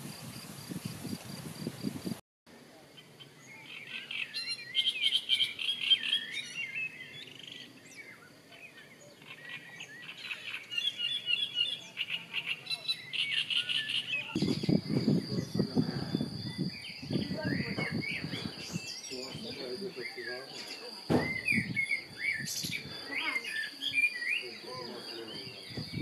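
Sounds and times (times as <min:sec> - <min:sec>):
songbirds trilling: 0:02.9 - 0:26.0.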